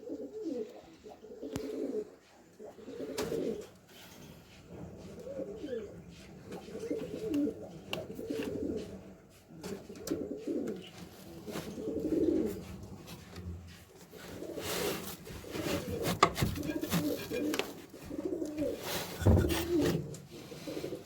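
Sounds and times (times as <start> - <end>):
pigeons cooing: 0.0 - 3.9, 4.7 - 13.3, 14.2 - 21.0.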